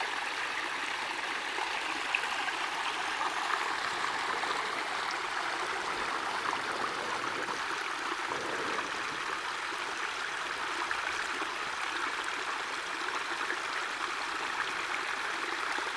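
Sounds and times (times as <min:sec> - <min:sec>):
small stream flowing: 0:00.0 - 0:15.9.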